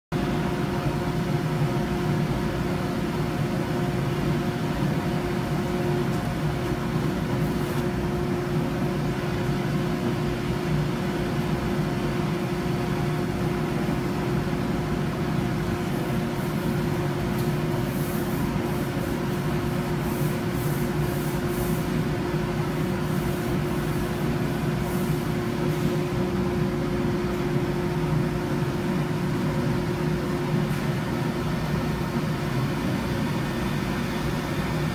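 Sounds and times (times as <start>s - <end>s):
industrial machinery humming: 0.2s - 34.9s.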